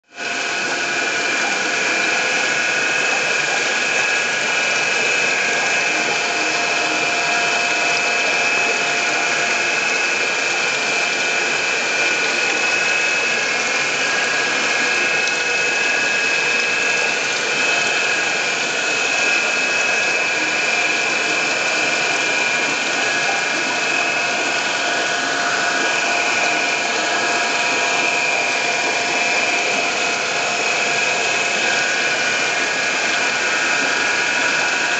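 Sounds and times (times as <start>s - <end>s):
small motor whirring: 0.2s - 34.9s.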